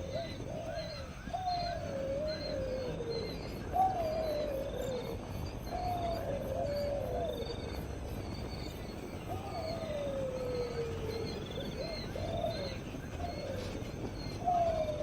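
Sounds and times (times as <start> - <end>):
animal giving low wavering calls: 0.0 - 7.8, 9.2 - 15.0.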